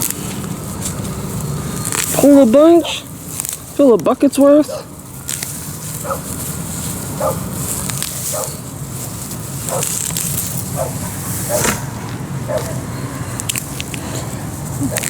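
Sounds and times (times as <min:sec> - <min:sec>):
weeds rustling as pulled: 0:00.0 - 0:15.0.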